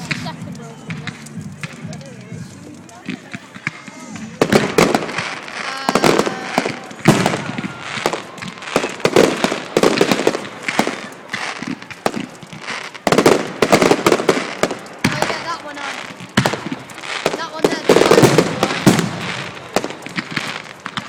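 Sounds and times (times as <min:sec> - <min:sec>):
firework shells bursting: 0:00.0 - 0:21.0
fireworks crackling: 0:00.0 - 0:21.0.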